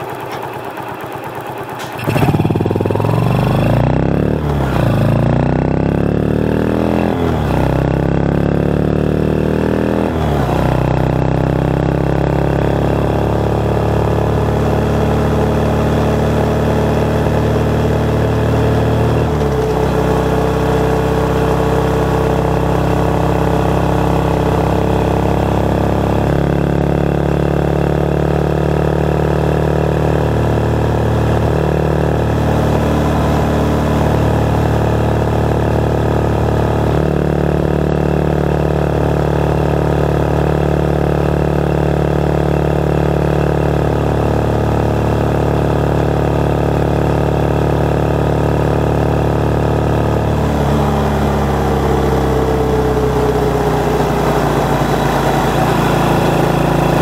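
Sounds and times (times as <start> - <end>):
motorcycle engine shifting gears: 0.0 - 57.0.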